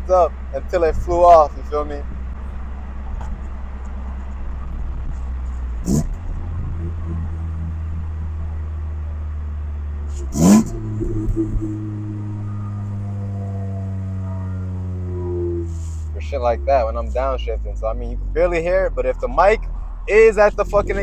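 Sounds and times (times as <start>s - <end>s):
car engine running: 0.0s - 21.0s
engine revving: 0.0s - 21.0s.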